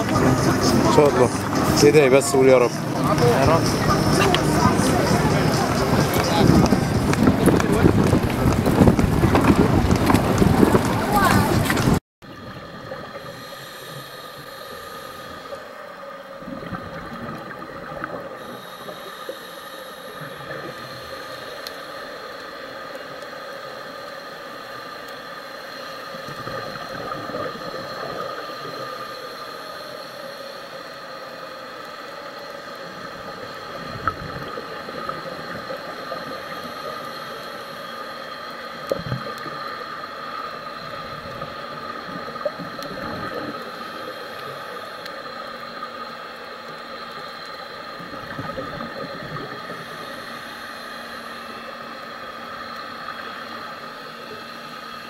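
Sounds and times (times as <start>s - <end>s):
steady hum: 0.0s - 55.0s
underwater bubbles gurgling: 0.0s - 55.0s.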